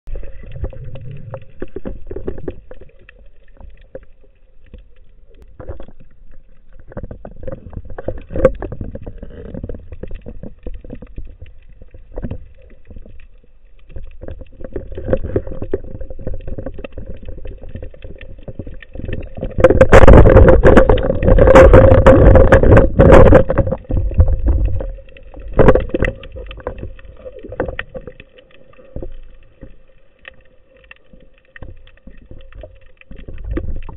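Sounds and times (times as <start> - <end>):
underwater water movement: 0.0 - 33.9.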